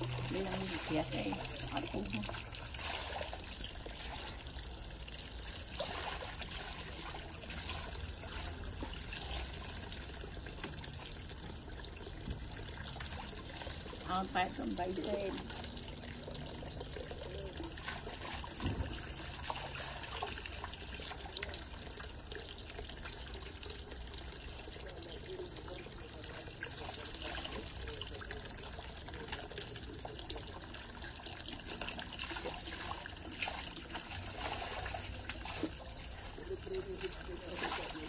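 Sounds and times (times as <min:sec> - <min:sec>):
hose water trickling into basin: 0:00.0 - 0:38.0.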